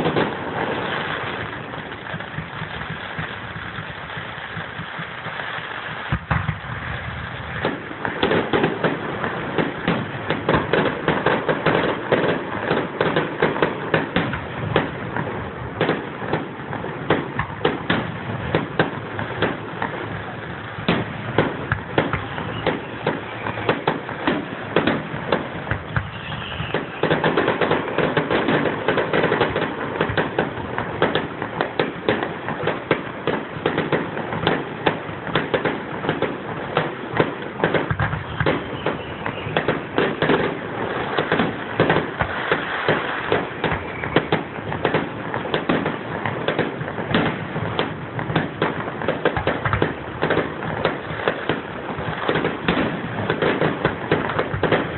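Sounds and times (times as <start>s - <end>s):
firecrackers crackling: 0.0s - 54.9s.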